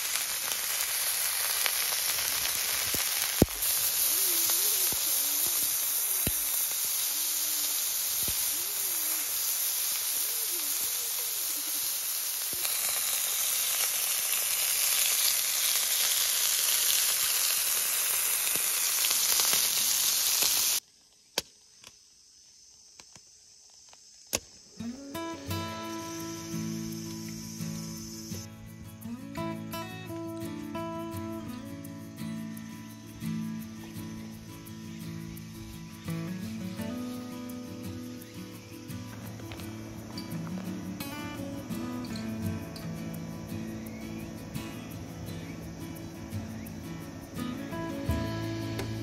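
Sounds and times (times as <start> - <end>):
steaks sizzling on griddle: 0.0 - 20.8, 24.8 - 49.0.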